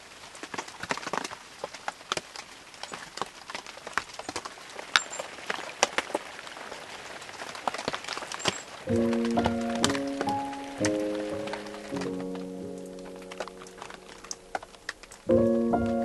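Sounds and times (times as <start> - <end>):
raindrops tapping on tarpaulin: 0.0 - 16.0
soft rain hiss: 0.0 - 16.0.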